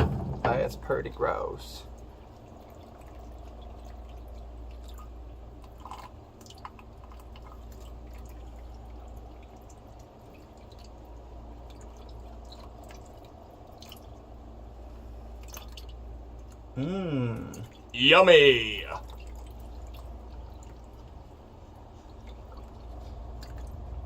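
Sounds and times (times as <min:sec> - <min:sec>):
water trickling into a bucket: 0:00.0 - 0:24.0
water dripping: 0:00.5 - 0:24.0.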